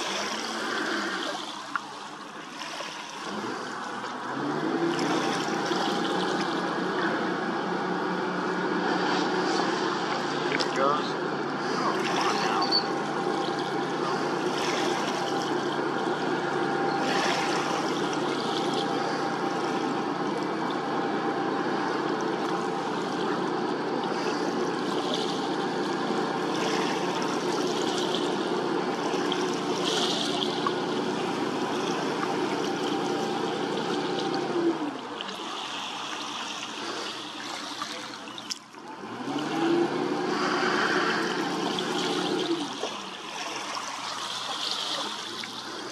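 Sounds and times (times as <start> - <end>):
churning water rushing: 0.0 - 45.9
tugboat engine running: 0.0 - 45.9.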